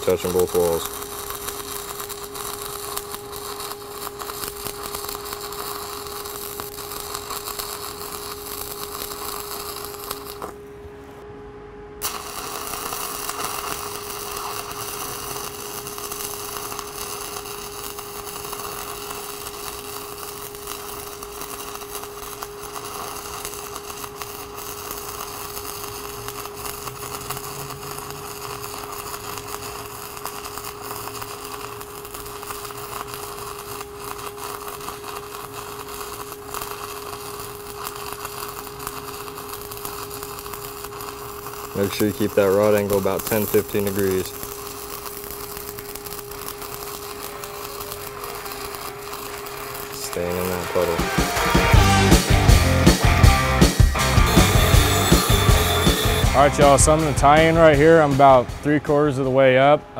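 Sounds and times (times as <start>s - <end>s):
welding arc crackling: 0.0s - 11.2s, 12.0s - 59.9s
steady hum: 0.0s - 59.9s.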